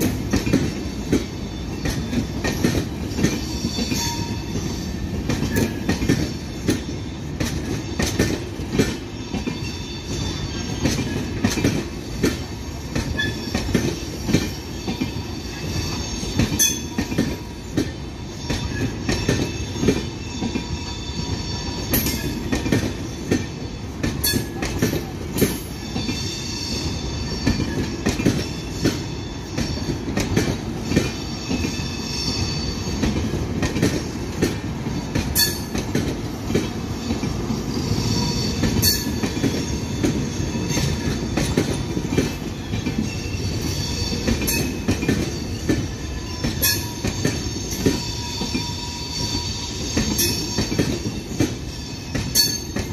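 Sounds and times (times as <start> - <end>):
wheels clacking over rail joints: 0.0 - 26.2, 26.8 - 31.9, 32.9 - 52.9
train rumbling past: 0.0 - 52.9
high wheel squeal: 1.0 - 33.4, 36.5 - 52.9.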